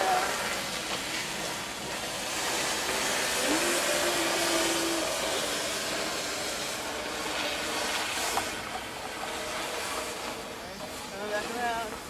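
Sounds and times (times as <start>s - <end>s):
snowstorm wind hissing: 0.0s - 11.9s.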